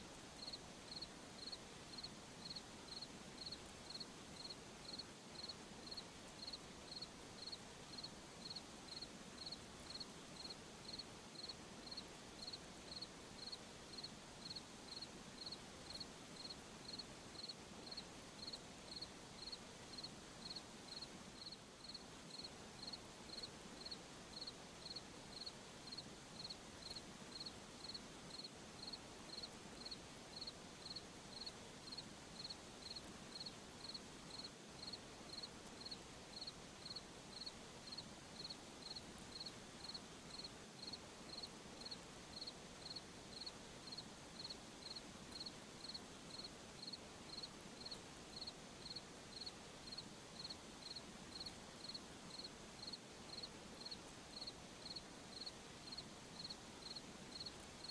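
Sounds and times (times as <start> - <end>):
low background hiss: 0.0 - 57.9
cricket chirping: 0.4 - 57.9.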